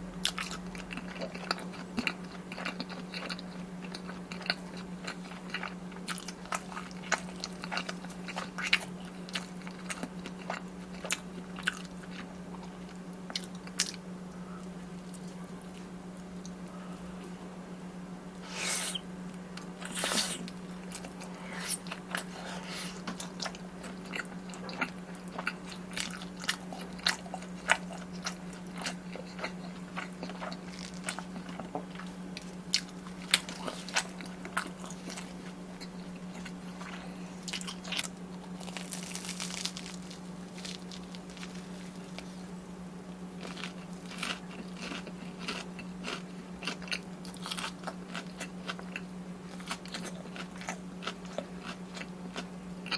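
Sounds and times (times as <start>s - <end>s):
crunchy chewing of snack food: 0.2s - 17.0s, 18.4s - 52.9s.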